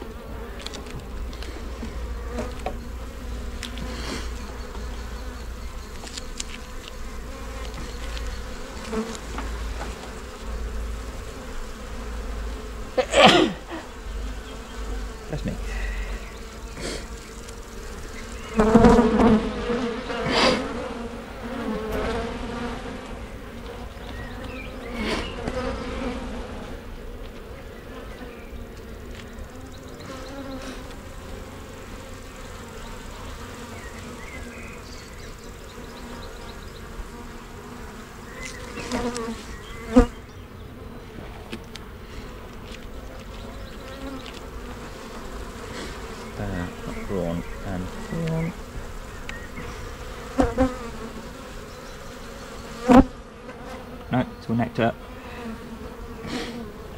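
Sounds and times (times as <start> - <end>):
bees buzzing: 0.0 - 56.9.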